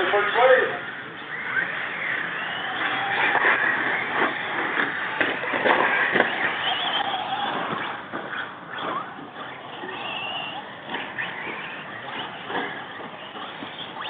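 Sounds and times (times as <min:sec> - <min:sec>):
toy truck motors whining: 0:00.0 - 0:14.0.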